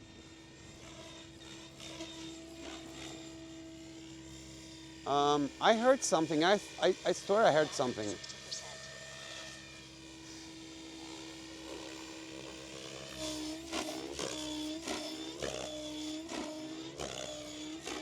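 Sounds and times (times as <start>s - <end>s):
helicopter rotor whine: 0.0s - 18.0s.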